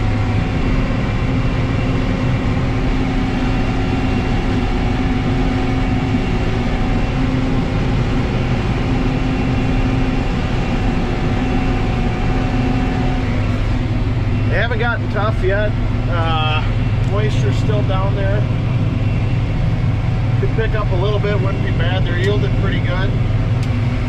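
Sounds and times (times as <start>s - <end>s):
combine harvester engine drone: 0.0s - 24.0s
steady hums: 0.0s - 24.0s.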